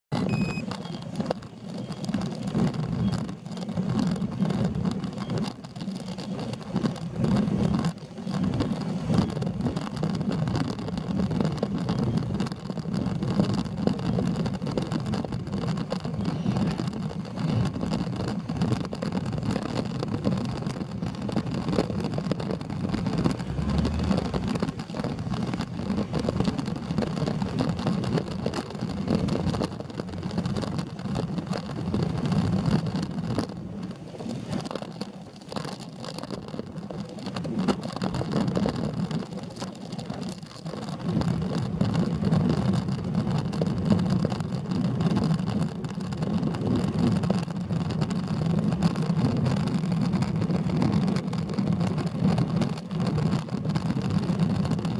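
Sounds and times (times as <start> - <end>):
wind and road noise rumble: 0.0 - 54.9.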